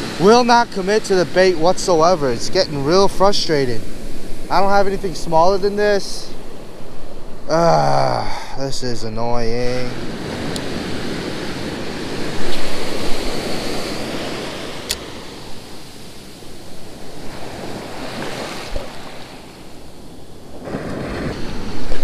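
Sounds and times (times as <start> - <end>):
ocean surf breaking on beach: 0.0 - 7.7, 8.7 - 22.0.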